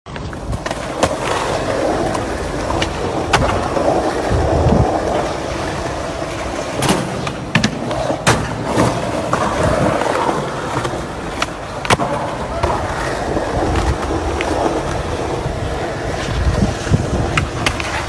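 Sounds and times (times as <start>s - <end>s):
skateboard clacking on ground: 0.1s - 18.0s
skateboard wheels rolling on concrete: 0.1s - 18.0s.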